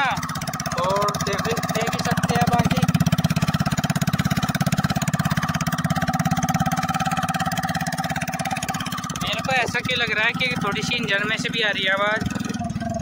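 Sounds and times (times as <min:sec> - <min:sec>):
loud motorcycle exhaust pulses: 0:00.0 - 0:13.0.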